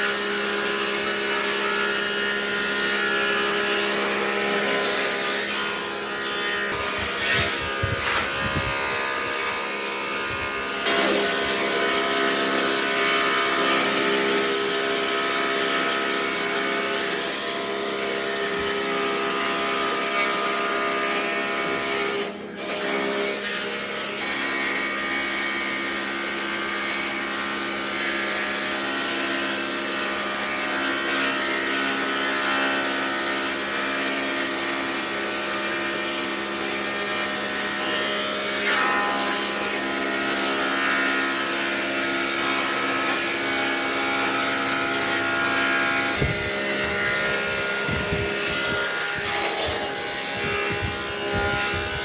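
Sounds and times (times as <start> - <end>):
power tool motor whining: 0.0 - 52.0.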